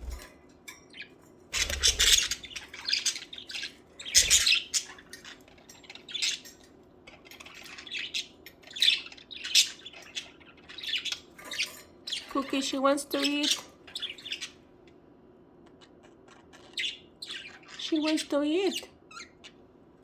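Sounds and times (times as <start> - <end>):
budgerigars chirping and squawking: 0.0 - 0.3, 0.9 - 15.0, 15.7 - 19.6.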